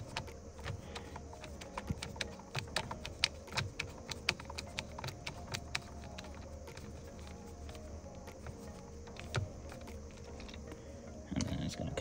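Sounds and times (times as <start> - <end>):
screwdriver clicking: 0.0 - 10.8.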